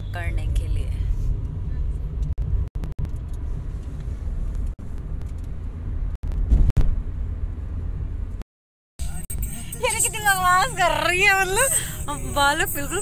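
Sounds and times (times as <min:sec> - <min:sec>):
car engine and tyre rumble: 0:00.0 - 0:08.4, 0:09.0 - 0:13.0.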